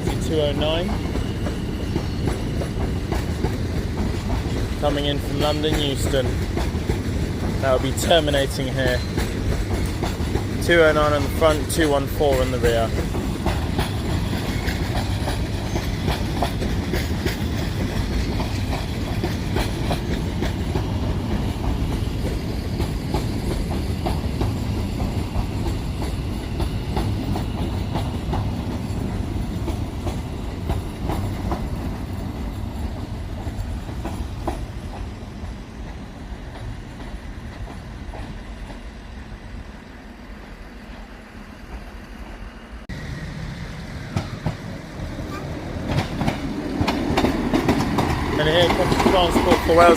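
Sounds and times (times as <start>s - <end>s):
train wheels clicking over rail joints: 0.0s - 39.0s, 43.7s - 49.9s
low train rumble: 0.0s - 49.9s.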